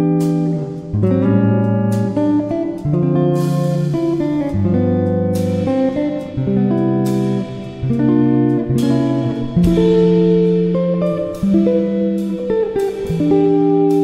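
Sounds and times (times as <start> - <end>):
slow held music chords: 0.0 - 14.0.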